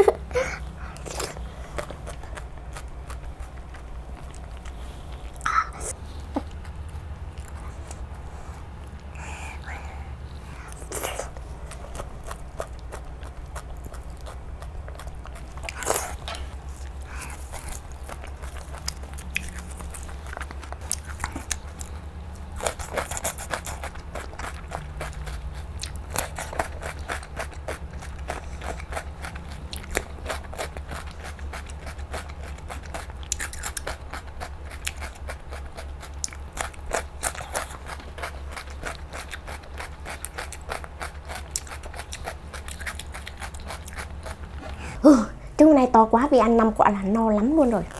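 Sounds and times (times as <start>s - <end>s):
chewing and crunching: 0.0s - 45.0s, 45.9s - 47.9s
steady low hum: 0.0s - 47.9s.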